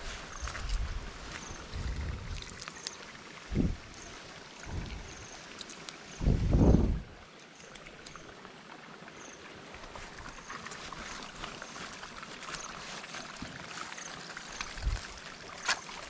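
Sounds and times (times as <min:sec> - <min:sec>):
water sloshing and trickling: 0:00.0 - 0:16.0
small splashes and clicks: 0:00.1 - 0:06.3, 0:07.2 - 0:16.0.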